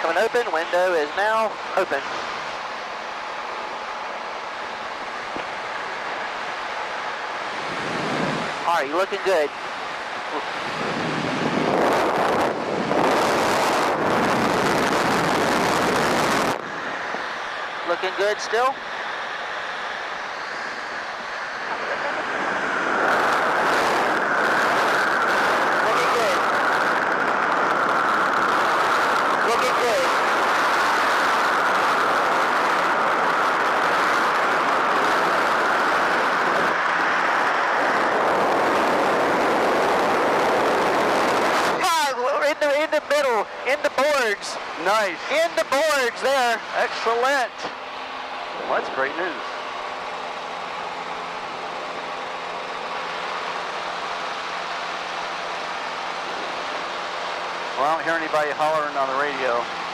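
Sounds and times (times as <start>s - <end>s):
air rushing through cockpit window: 0.0s - 59.9s
aircraft engine noise in cabin: 0.0s - 59.9s.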